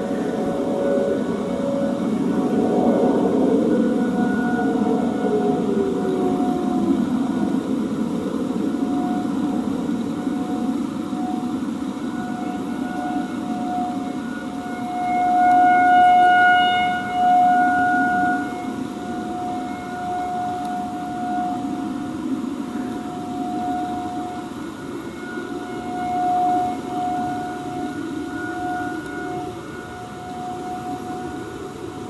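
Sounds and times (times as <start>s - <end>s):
outdoor warning siren: 0.0s - 32.0s.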